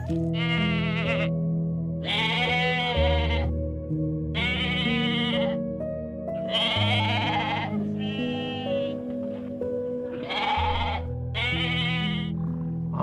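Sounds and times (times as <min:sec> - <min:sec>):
farm animal bleating: 0:00.0 - 0:01.4, 0:02.0 - 0:03.6, 0:04.3 - 0:05.7, 0:06.4 - 0:09.5, 0:10.1 - 0:13.0
music with slow held chords: 0:00.0 - 0:13.0.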